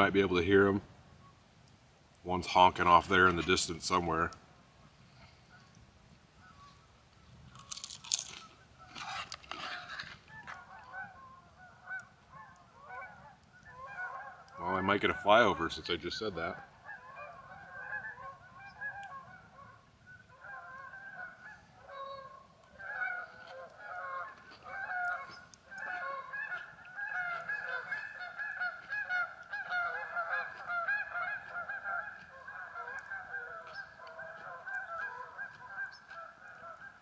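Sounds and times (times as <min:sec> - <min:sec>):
geese honking: 0:06.4 - 0:37.0.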